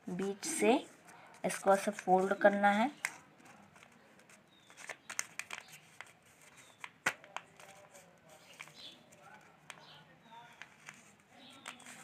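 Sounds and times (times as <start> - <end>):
paper rustling and crinkling: 0.1 - 12.0.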